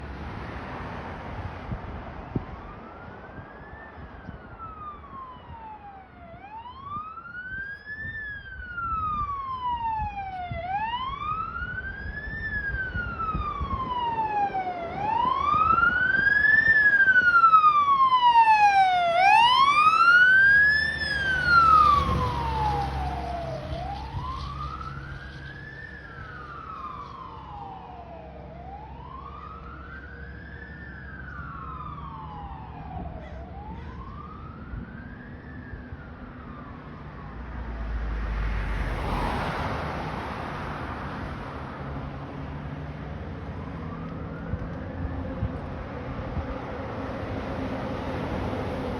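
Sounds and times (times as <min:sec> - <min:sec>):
fire engine siren wailing: 0:01.4 - 0:48.9.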